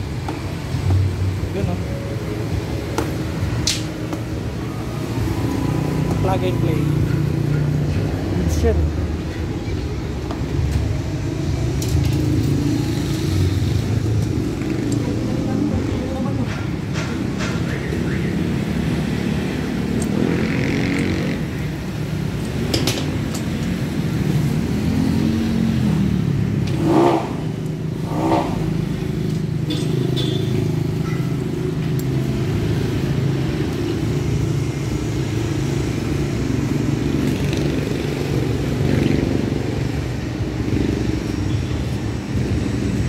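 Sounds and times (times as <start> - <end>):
vehicle engines running: 0.0 - 43.0.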